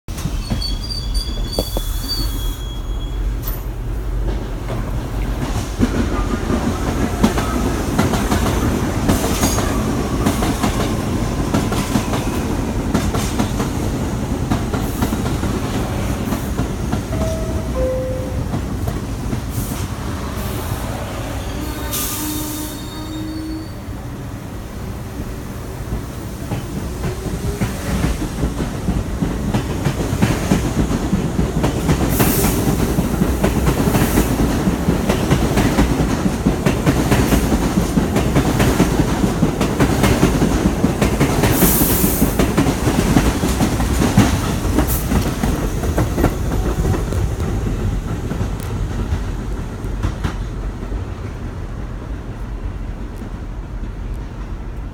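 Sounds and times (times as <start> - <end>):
train wheels clacking on rails: 3.3 - 20.8, 25.9 - 54.9.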